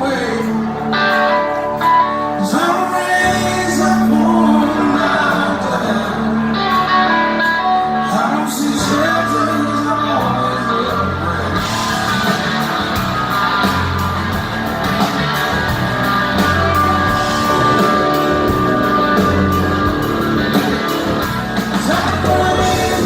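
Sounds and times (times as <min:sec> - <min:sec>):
electric guitar: 0:00.0 - 0:23.0
rock band playing: 0:00.0 - 0:23.0.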